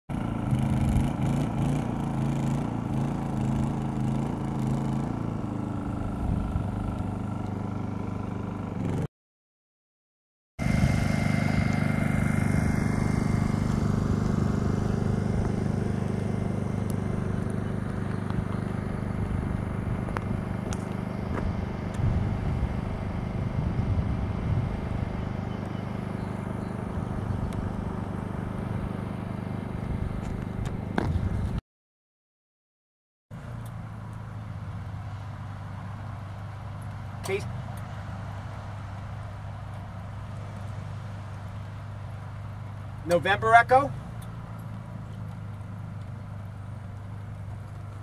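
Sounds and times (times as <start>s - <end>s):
engine idling: 0.1s - 9.1s, 10.6s - 31.6s, 33.4s - 48.0s.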